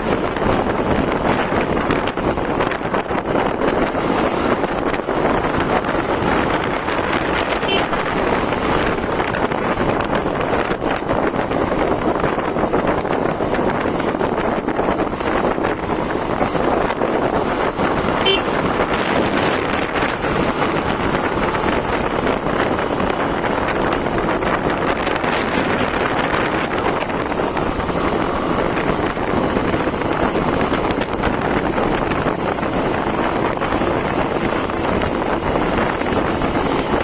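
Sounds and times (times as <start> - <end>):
motorcycle engine and road noise: 0.0 - 37.0
wind rushing over microphone: 0.0 - 37.0.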